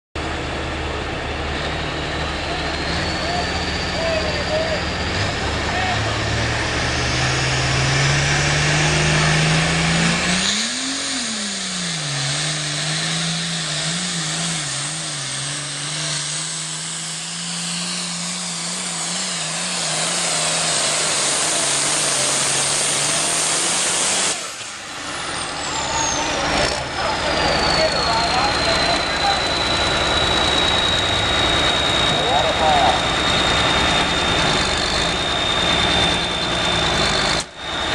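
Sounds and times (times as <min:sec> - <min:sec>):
high engine whine: 0:00.2 - 0:37.9
tractor diesel engine running: 0:00.2 - 0:37.9.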